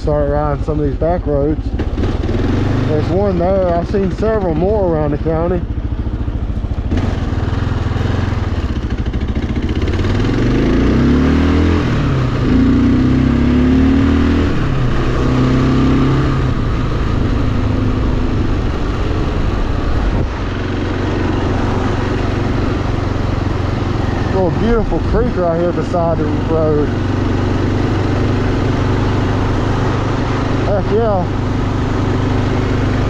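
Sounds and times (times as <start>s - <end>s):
motorcycle engine revving: 0.0s - 33.0s
wind and road noise: 0.0s - 33.0s.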